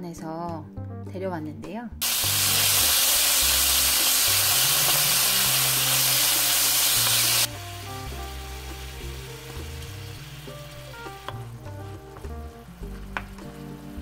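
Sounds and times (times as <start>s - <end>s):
meat sizzling in a hot pan: 2.0s - 14.0s.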